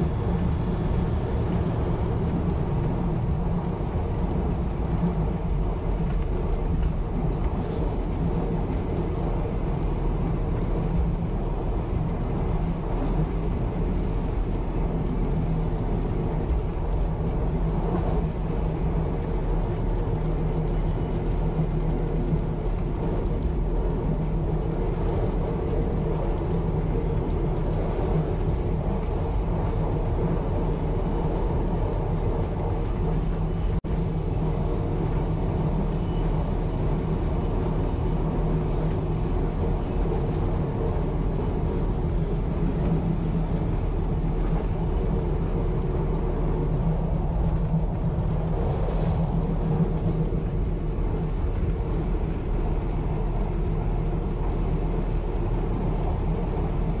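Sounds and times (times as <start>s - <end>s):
railcar engine drone: 0.0s - 57.0s
train running noise on track: 0.0s - 57.0s.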